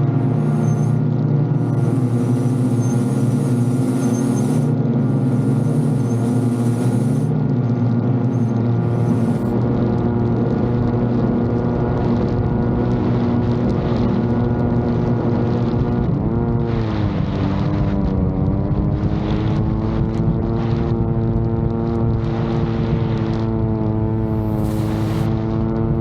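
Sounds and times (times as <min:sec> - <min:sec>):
drone propellers humming: 0:00.0 - 0:26.0
wind noise: 0:00.0 - 0:26.0.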